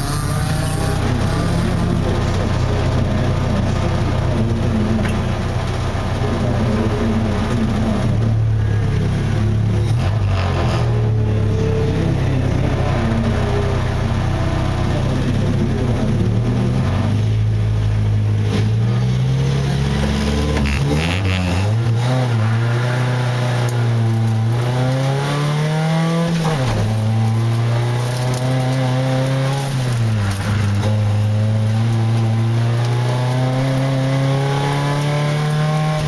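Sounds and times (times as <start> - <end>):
race car engine revving: 0.0 - 36.0.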